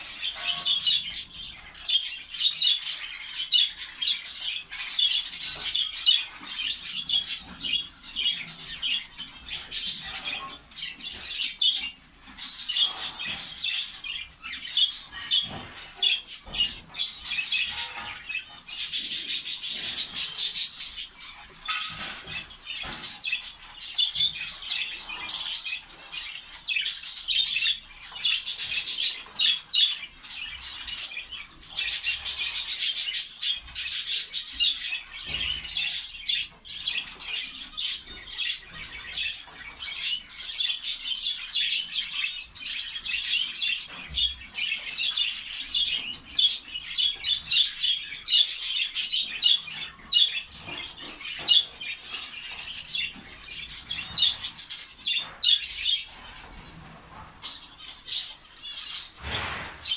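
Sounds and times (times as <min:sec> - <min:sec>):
finches chirping: 0:00.0 - 0:56.6.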